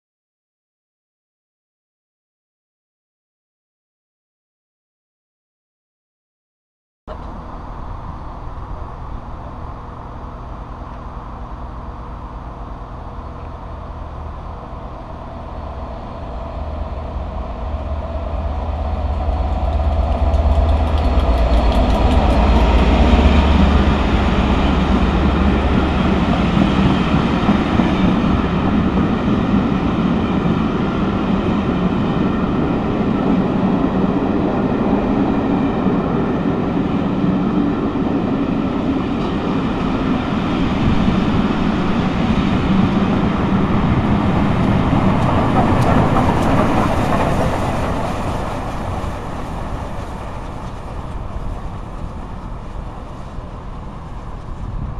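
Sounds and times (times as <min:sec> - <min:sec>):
diesel locomotive engine rumble: 0:07.1 - 0:54.9
passenger coaches clattering on rails: 0:07.1 - 0:54.9.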